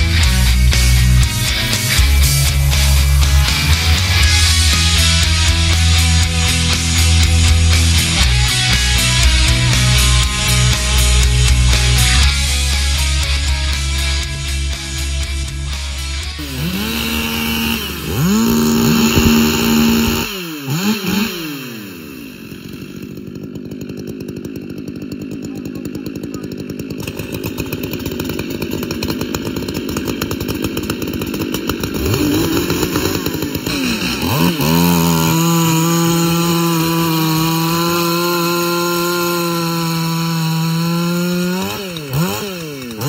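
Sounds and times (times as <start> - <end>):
chainsaw cutting log: 0.0 - 43.0
chainsaw idling: 0.0 - 43.0
chainsaws revving: 0.0 - 43.0.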